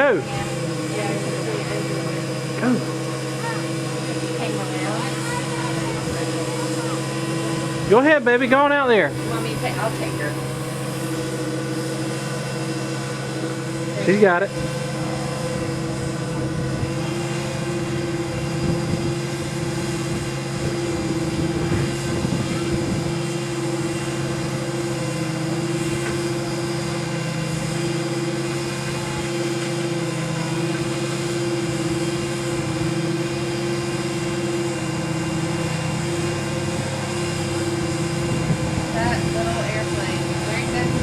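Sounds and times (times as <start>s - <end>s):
propeller airplane engine idling: 0.0s - 41.0s.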